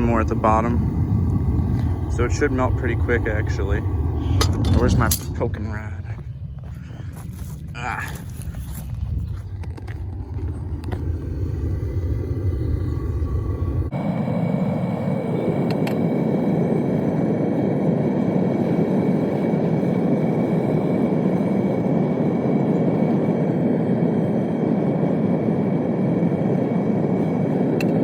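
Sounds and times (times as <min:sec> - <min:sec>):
gas burner roaring: 0:00.0 - 0:28.0.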